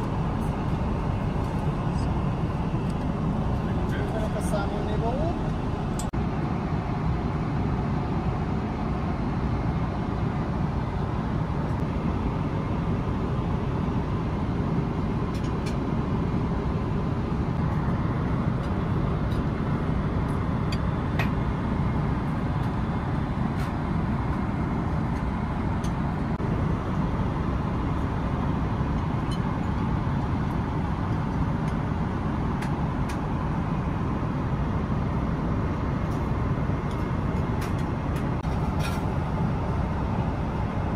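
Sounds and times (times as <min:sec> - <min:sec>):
airliner cabin engine roar: 0:00.0 - 0:40.9.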